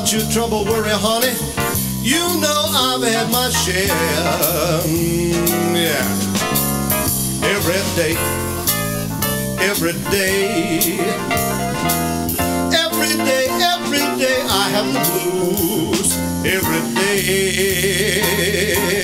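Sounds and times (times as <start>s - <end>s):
blues band playing: 0.0s - 19.0s.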